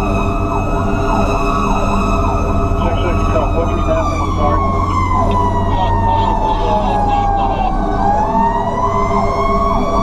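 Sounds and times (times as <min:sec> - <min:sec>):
electronic siren yelping: 0:00.0 - 0:10.0
truck engine droning: 0:00.0 - 0:10.0.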